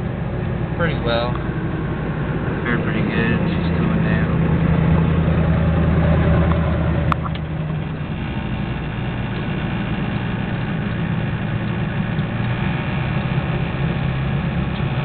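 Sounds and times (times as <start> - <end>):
diesel engine low drone: 0.0 - 15.0.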